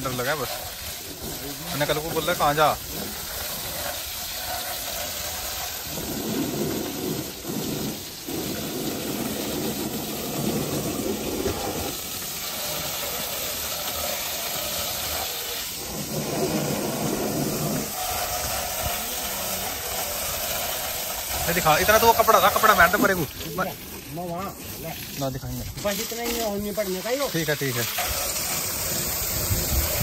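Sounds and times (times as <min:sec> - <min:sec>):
hose spraying water: 0:00.0 - 0:30.0
water splashing: 0:00.0 - 0:30.0.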